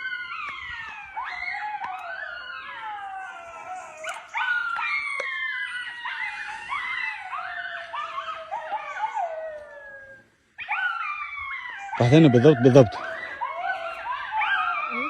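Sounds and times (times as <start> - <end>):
wolves howling: 0.0 - 15.0
wolves yipping: 0.0 - 15.0.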